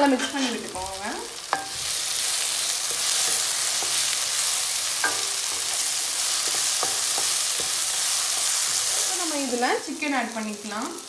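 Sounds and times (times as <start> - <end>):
masala sizzling in oil: 0.0 - 11.0
wooden spatula stirring: 0.1 - 9.4.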